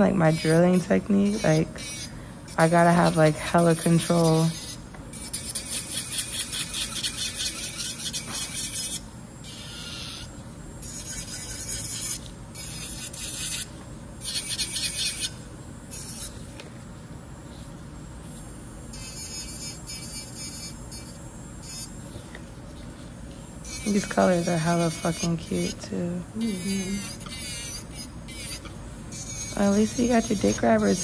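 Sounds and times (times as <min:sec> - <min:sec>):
electric nail drill grinding: 0:00.0 - 0:16.6, 0:18.0 - 0:22.2, 0:23.3 - 0:31.0.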